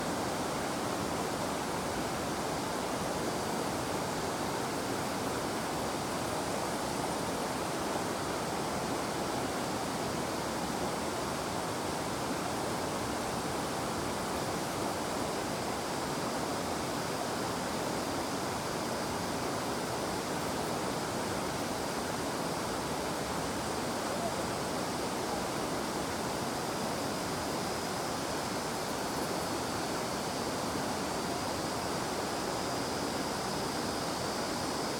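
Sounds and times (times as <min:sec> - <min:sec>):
cicadas droning: 0:00.1 - 0:34.9.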